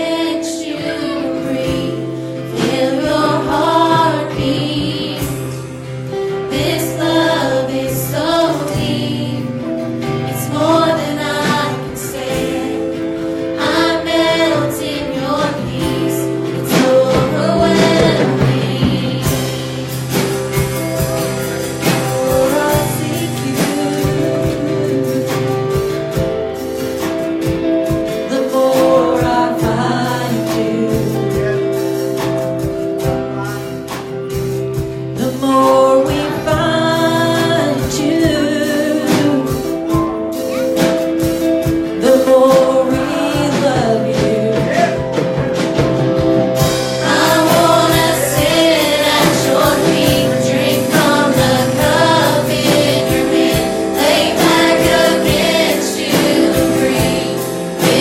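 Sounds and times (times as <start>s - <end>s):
gospel singing over chords and beat: 0.0s - 58.0s.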